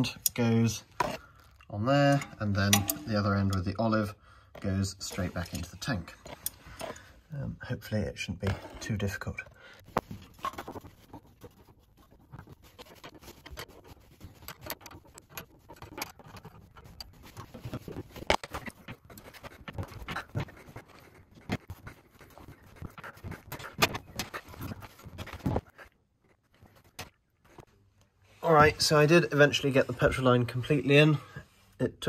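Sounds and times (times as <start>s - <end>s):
metal clicks taps and scrapes: 0.0s - 7.1s, 7.9s - 28.1s.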